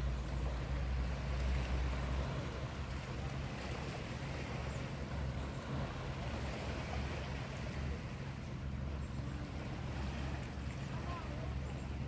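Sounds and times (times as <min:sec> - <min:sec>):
small waves on rocky shore: 0:00.0 - 0:12.0.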